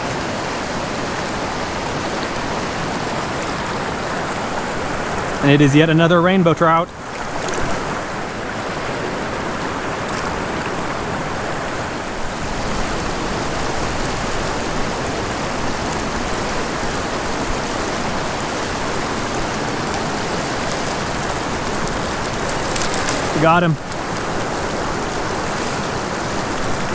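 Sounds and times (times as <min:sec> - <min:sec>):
river rushing over boulders: 0:00.0 - 0:26.9.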